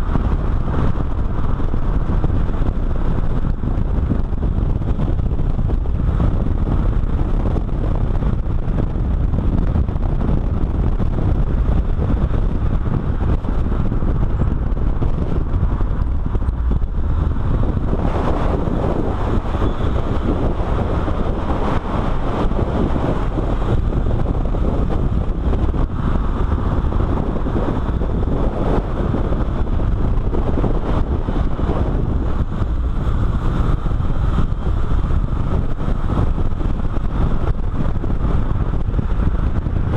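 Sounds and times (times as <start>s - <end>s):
car tyre and engine noise: 0.0s - 39.9s
wind buffeting on microphone: 0.0s - 39.9s.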